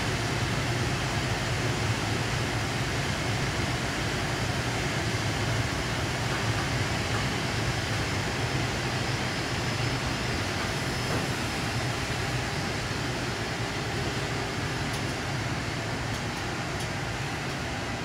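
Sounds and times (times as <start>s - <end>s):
freight train wheels rumbling: 0.1s - 18.0s.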